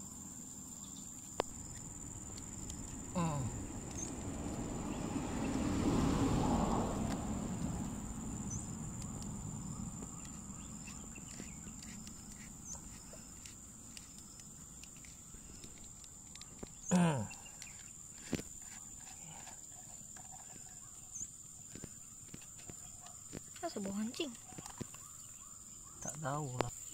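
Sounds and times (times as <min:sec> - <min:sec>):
high insect drone: 0:00.0 - 0:26.9.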